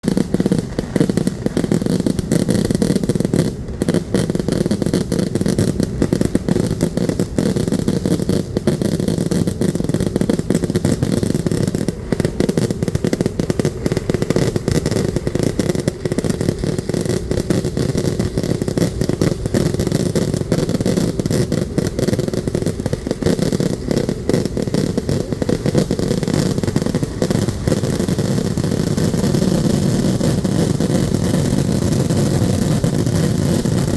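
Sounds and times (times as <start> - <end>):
fireworks barrage: 0.0 - 33.9.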